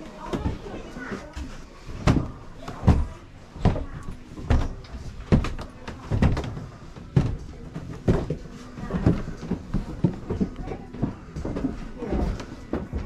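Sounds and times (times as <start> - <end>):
footsteps on wooden stairs: 0.0 - 13.0.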